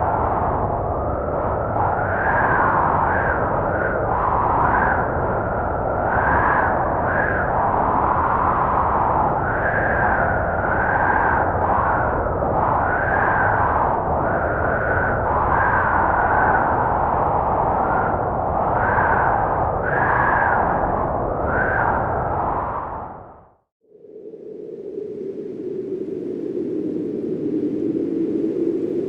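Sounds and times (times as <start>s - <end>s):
whistling blizzard wind: 0.0s - 29.0s.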